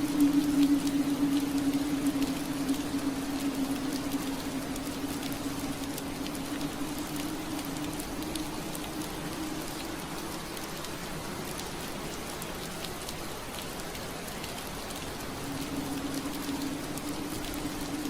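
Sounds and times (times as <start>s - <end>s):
low steady drone: 0.0s - 18.0s
rain pattering on window glass: 0.0s - 18.0s.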